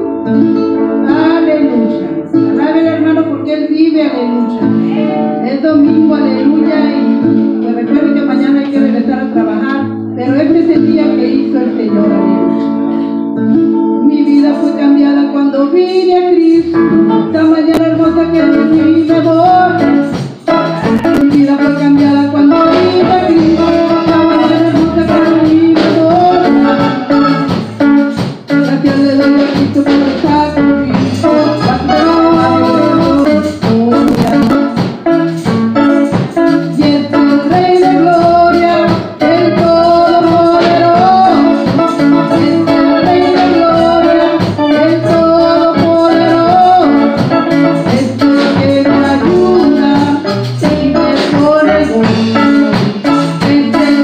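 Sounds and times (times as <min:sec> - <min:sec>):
organ keyboard chords: 0:00.0 - 0:54.0
worship band playing: 0:00.0 - 0:54.0.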